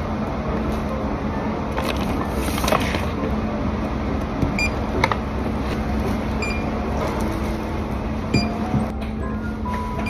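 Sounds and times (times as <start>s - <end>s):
store background hum: 0.0s - 10.0s.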